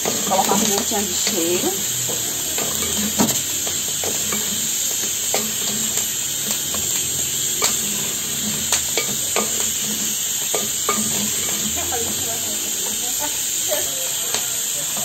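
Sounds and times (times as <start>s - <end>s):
rice sizzling in lard: 0.0s - 15.0s.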